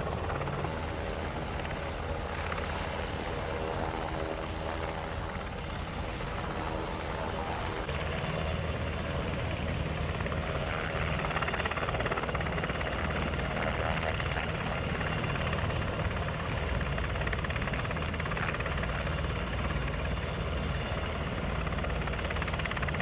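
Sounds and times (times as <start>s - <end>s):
helicopter rotor and turbine: 0.0s - 23.0s.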